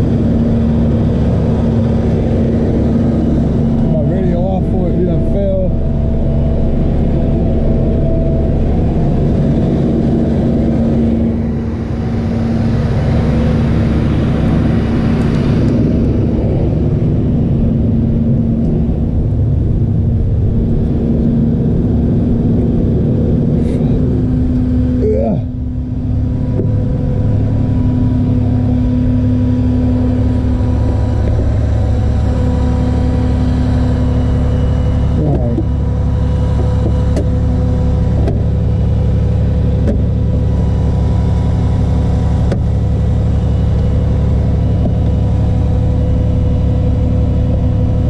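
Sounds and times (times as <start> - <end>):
vehicle engine humming: 0.0 - 48.0.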